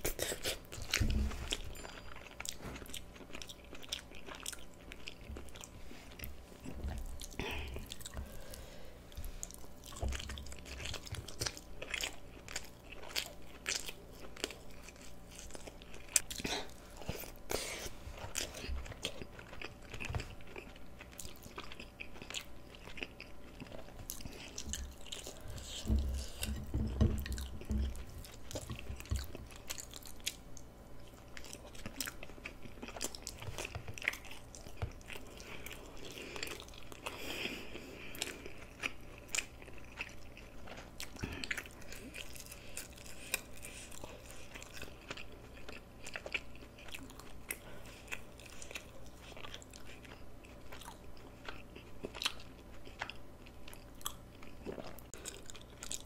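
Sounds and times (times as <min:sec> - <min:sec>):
chewing with crunchy bites: 0:00.0 - 0:56.0.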